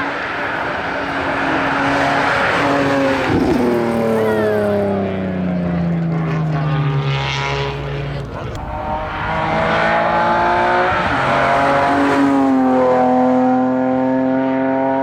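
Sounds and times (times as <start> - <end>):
racing car engine passing: 0.0 - 15.0.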